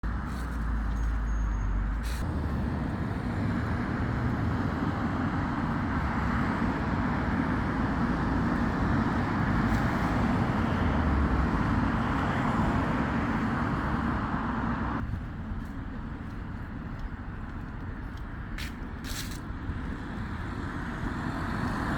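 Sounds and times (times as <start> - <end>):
road traffic passing: 0.0 - 21.9.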